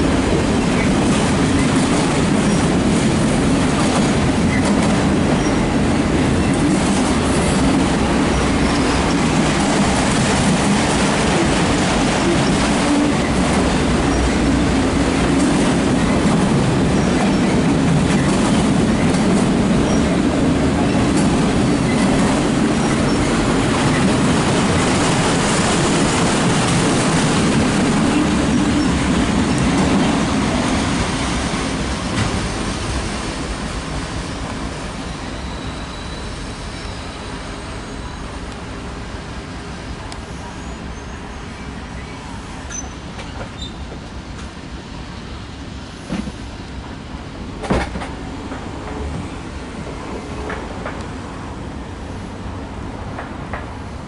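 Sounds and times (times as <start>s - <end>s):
freight train wheels clattering on rail: 0.0s - 37.0s, 42.6s - 44.8s, 45.6s - 51.7s, 52.4s - 54.0s.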